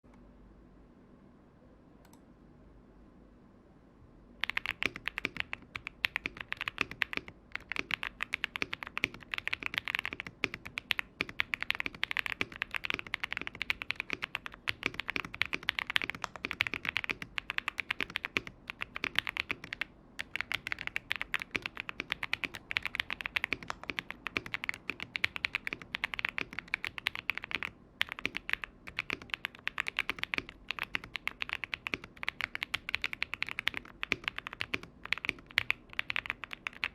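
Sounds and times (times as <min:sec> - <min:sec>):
fast mechanical keyboard typing: 0:04.4 - 0:36.9.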